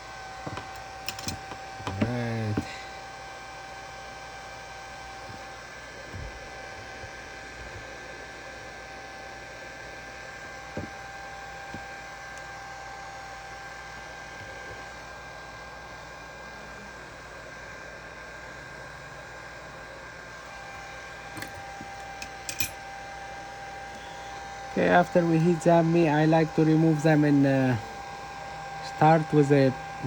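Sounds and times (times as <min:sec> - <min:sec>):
heat gun blowing with high whine: 0:00.0 - 0:30.0.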